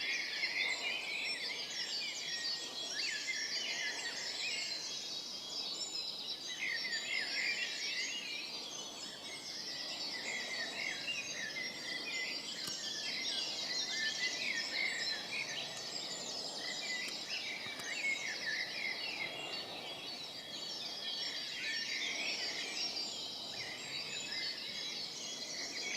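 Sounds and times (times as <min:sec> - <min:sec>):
songbirds singing: 0:00.0 - 0:25.9.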